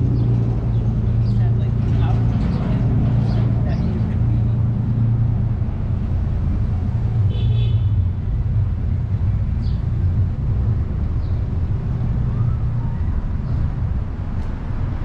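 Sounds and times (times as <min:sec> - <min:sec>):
low rumble of vehicle engines: 0:00.0 - 0:15.0.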